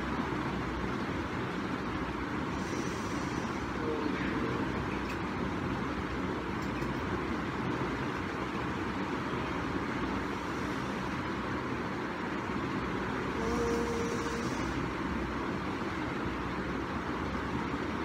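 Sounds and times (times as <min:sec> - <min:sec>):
background whooshing noise: 0:00.0 - 0:18.0.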